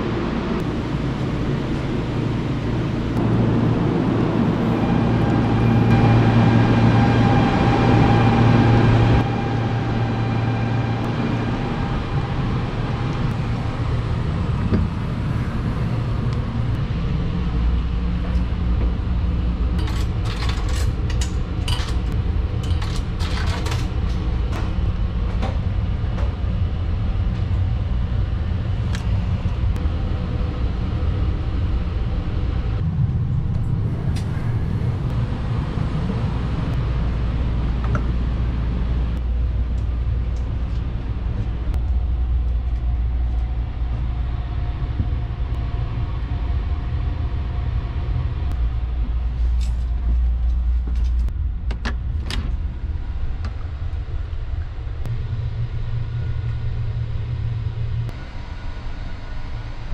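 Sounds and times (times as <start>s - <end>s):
train car low rumble: 0.0s - 59.9s.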